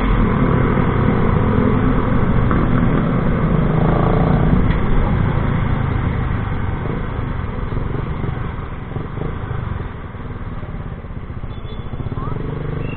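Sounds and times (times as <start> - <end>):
engine through loud exhaust: 0.0 - 12.9.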